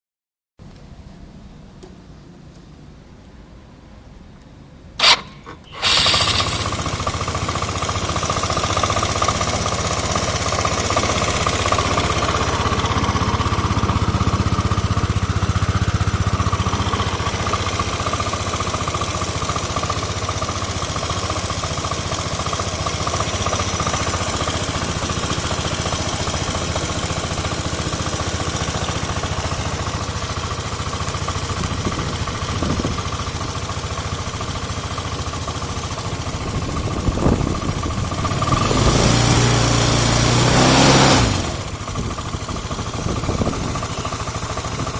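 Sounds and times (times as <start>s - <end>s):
engine whine: 5.0s - 33.5s, 35.2s - 44.9s
scooter engine starting and idling: 5.0s - 44.9s.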